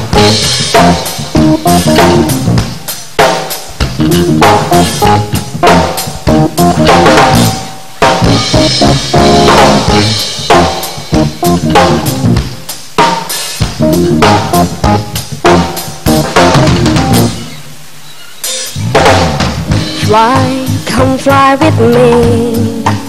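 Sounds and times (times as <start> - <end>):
electric bass: 0.0 - 2.9, 3.8 - 12.7, 13.6 - 17.6, 18.7 - 23.0
drum kit hits and rimshots: 0.0 - 23.0
keyboard: 0.0 - 23.0.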